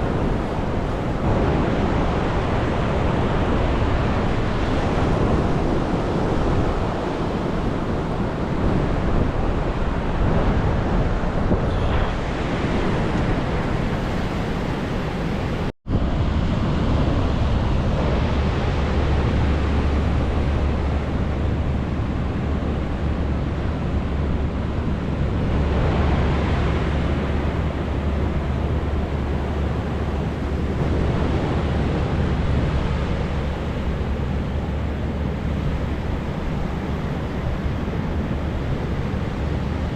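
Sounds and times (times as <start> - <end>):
surf breaking and washing in: 0.0 - 39.9
wind buffeting microphone: 0.0 - 39.9.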